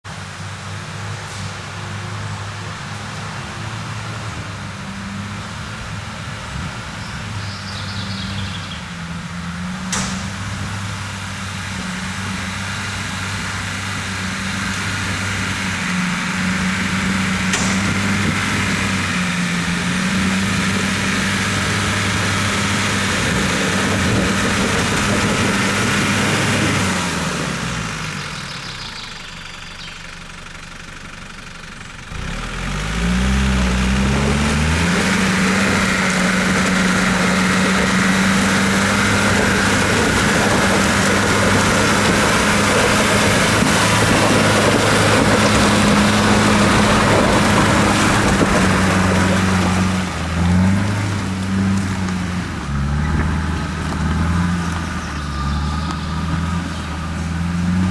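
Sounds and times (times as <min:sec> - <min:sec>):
pickup truck engine revving: 0:01.9 - 0:57.9.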